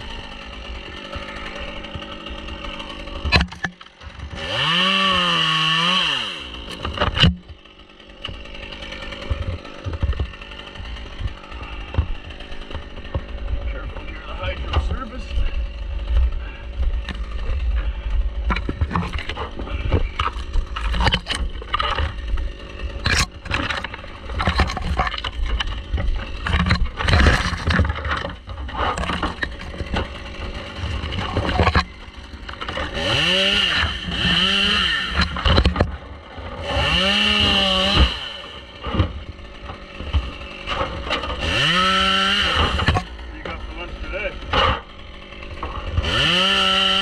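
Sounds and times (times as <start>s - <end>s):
chainsaw revving: 0.0s - 47.0s
knocks and scrapes on tree: 0.1s - 47.0s.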